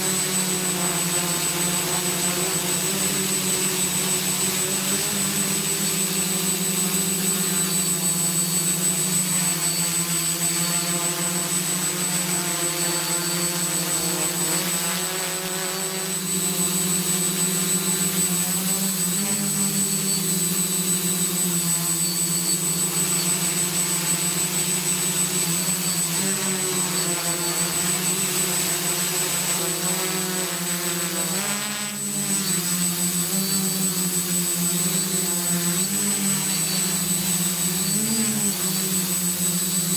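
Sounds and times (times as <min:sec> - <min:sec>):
drone propellers buzzing: 0:00.0 - 0:39.9
thin high whine: 0:00.0 - 0:39.9.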